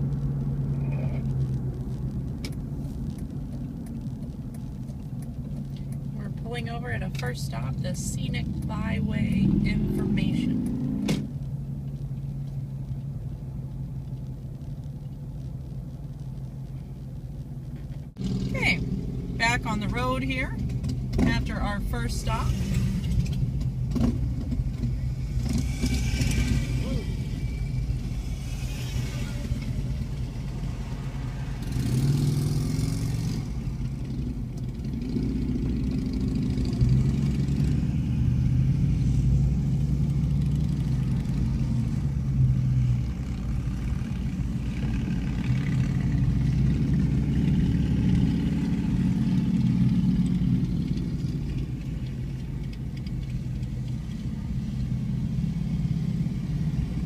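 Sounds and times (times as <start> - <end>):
road noise: 0.0 - 57.0
vehicle engine: 0.0 - 57.0.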